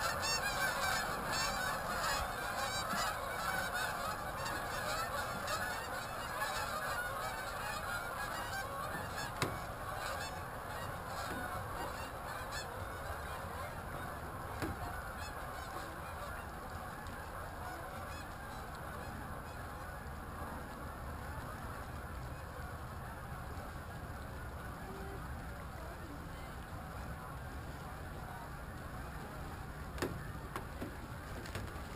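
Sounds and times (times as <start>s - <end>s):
geese honking: 0.0s - 31.2s.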